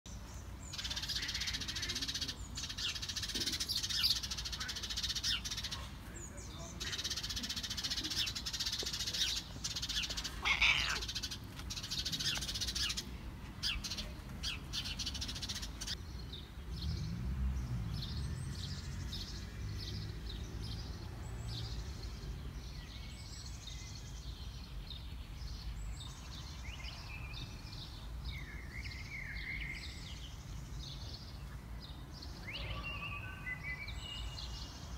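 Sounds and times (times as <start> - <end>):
birds chirping and singing: 0.1 - 34.9.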